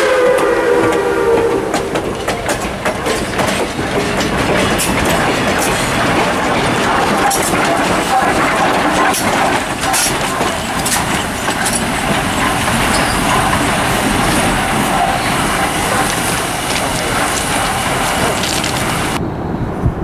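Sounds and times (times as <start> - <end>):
train clanks and knocks: 0.0 - 19.2
outdoor ambience: 0.0 - 20.0
train wheels rumbling on rail: 0.0 - 20.0.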